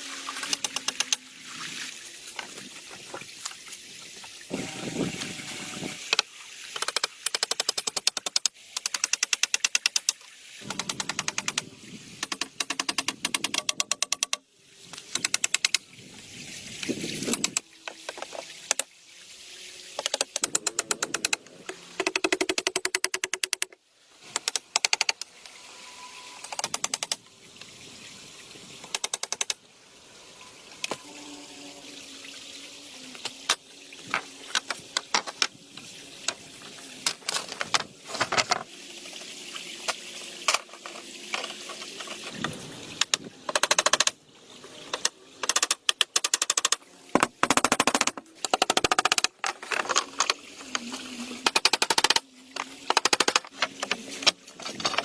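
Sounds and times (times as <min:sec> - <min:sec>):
stream water rushing: 0:00.0 - 0:22.6, 0:23.5 - 0:55.0.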